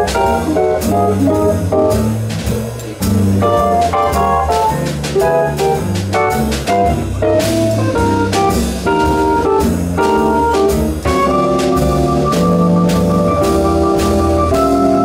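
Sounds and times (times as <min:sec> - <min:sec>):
organ-like keyboard lead: 0:00.0 - 0:02.2, 0:03.4 - 0:15.0
drum kit with cymbal strikes: 0:00.0 - 0:15.0
guitar: 0:00.0 - 0:15.0
walking double bass: 0:00.0 - 0:15.0.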